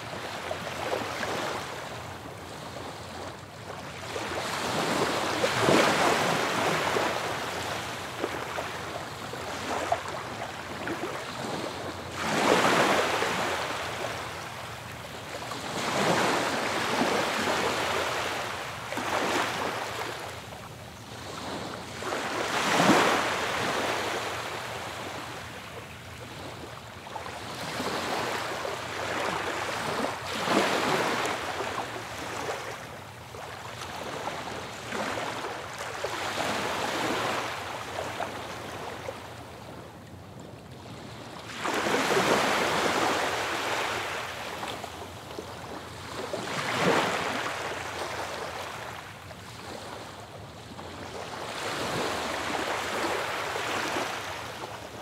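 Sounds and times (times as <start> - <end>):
ocean waves breaking: 0.0 - 20.4, 21.2 - 39.8, 41.5 - 50.2, 51.0 - 55.0.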